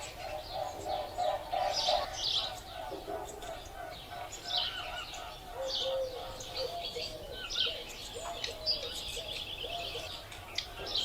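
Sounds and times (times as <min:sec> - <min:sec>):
low cooing bird calls: 0:00.0 - 0:11.0.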